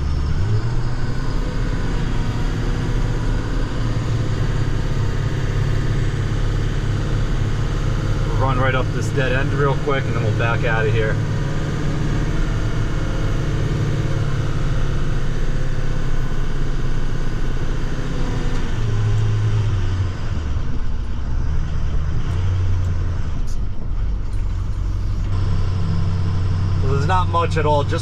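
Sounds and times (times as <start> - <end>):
truck engine from inside cab: 0.0 - 28.0.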